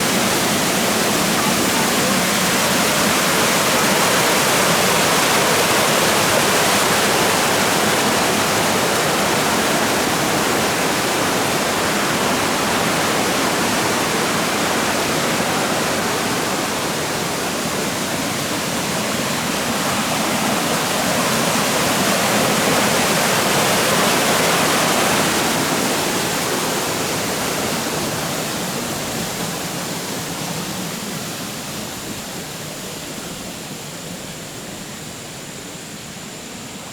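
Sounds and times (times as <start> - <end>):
river rushing over rocks: 0.0 - 34.6.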